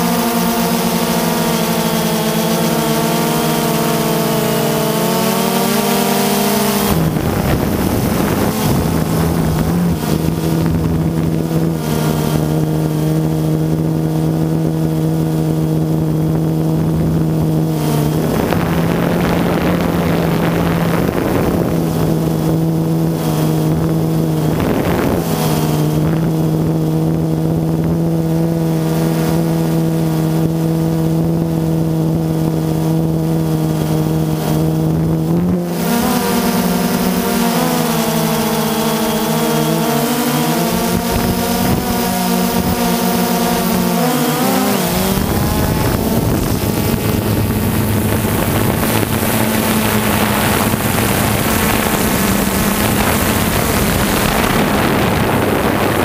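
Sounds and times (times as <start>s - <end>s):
drone propellers whirring: 0.0s - 56.0s
rushing wind: 0.0s - 56.0s.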